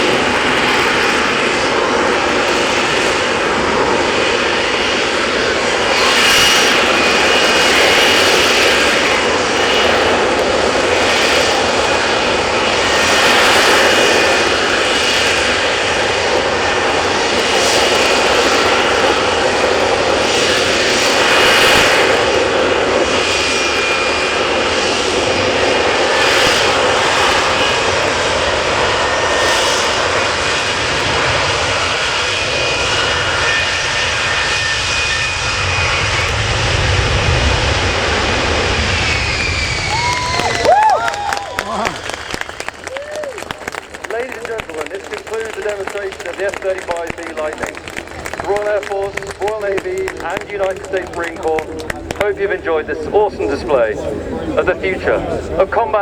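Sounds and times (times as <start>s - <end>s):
jet engine roaring: 0.0s - 56.0s.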